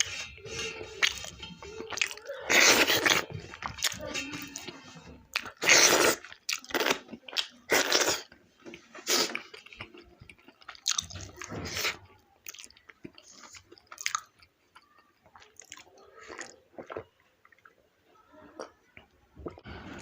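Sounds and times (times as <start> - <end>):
person chewing food: 0.0 - 17.8.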